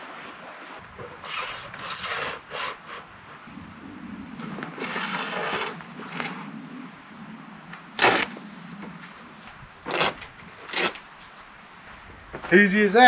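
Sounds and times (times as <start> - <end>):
awning arms scraping rattles: 0.8 - 11.6.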